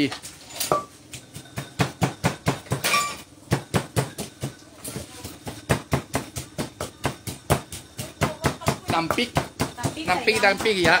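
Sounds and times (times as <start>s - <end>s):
wooden pestle pounding in mortar: 0.8s - 11.0s.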